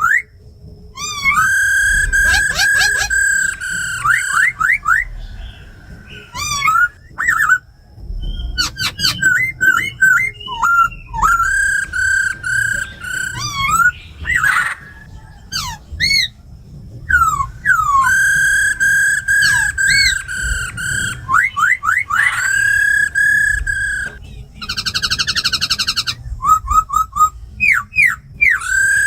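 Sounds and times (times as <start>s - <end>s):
laughingthrush whistled song: 0.0s - 29.0s.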